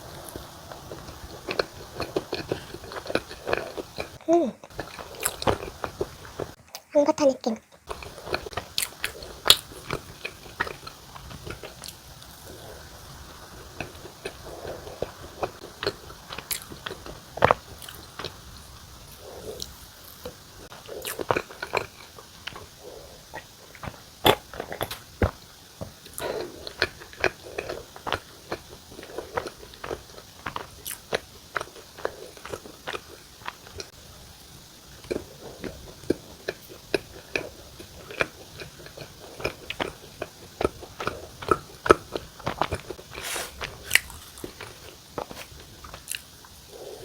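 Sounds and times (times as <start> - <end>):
chewing bread: 0.0 - 6.9, 7.6 - 47.0.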